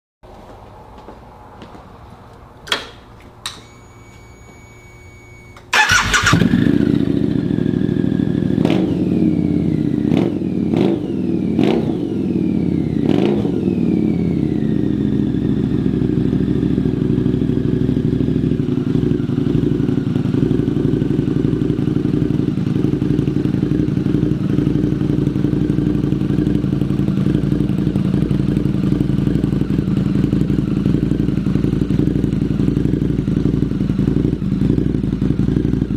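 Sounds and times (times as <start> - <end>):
motorcycle engine revving and idling: 4.5 - 35.9.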